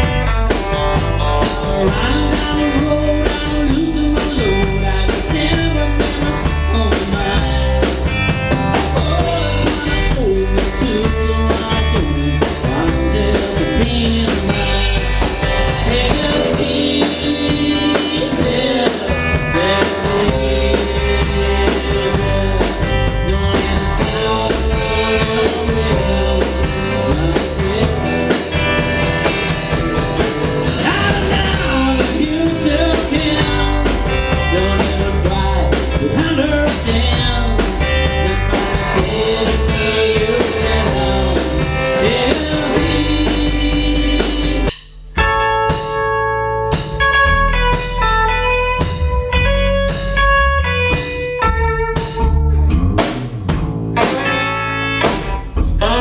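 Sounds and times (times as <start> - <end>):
rock music with singing: 0.0 - 56.0.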